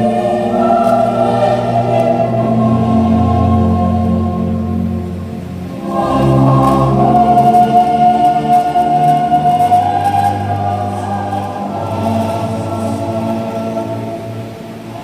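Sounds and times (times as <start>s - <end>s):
choir singing sustained notes: 0.0s - 15.0s.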